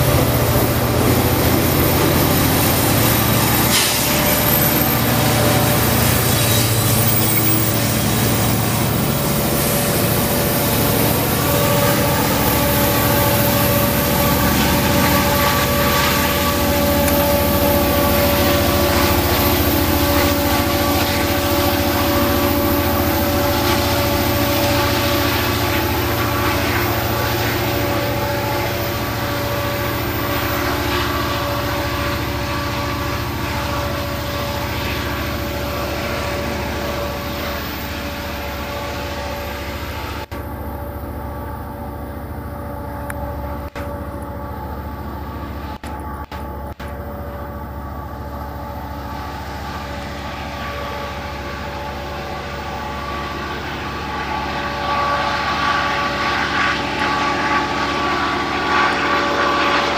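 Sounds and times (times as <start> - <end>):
constant engine whine: 0.0 - 59.9
locomotive engine rumble: 0.0 - 59.9.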